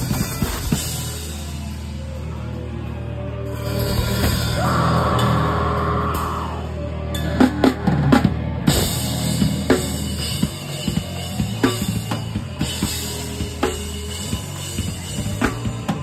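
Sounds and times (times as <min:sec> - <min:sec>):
drum kit played hard: 0:00.0 - 0:02.4, 0:03.5 - 0:16.0.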